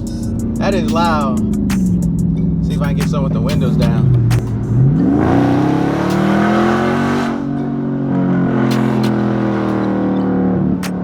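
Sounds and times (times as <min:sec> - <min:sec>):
loud car exhaust accelerating: 0:00.0 - 0:11.0.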